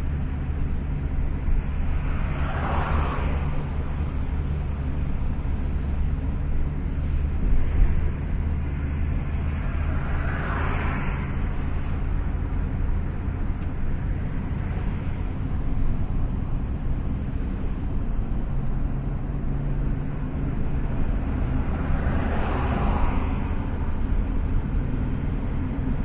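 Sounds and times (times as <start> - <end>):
passing vehicle rush: 0.0 - 26.0
vehicle engine and road drone: 0.0 - 26.0.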